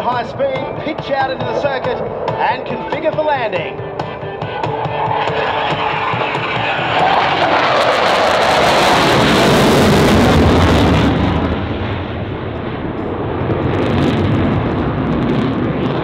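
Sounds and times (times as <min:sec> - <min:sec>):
jet engine rush with crackle: 0:00.0 - 0:16.0.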